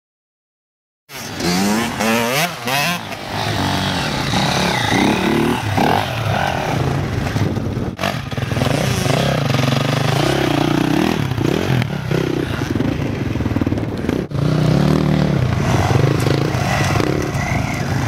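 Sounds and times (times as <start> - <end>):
dirt bike engines revving: 1.1 - 18.0.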